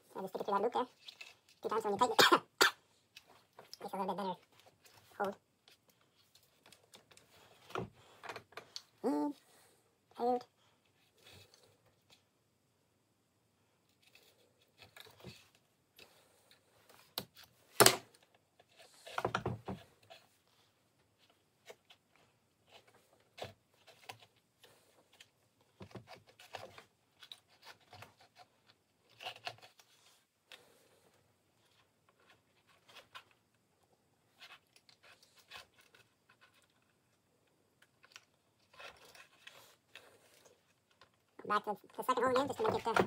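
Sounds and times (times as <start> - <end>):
needle and thread through bark: 0.0 - 9.4, 13.8 - 43.0.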